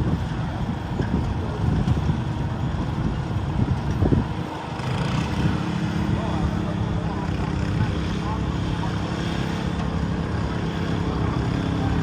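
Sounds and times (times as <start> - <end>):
garden tractor engine under load: 0.1 - 12.0.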